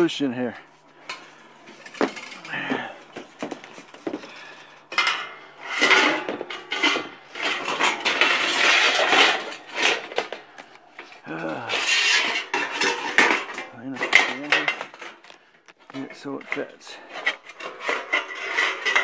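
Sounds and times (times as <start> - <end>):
steel roofing panel scraping metal: 0.8 - 19.0.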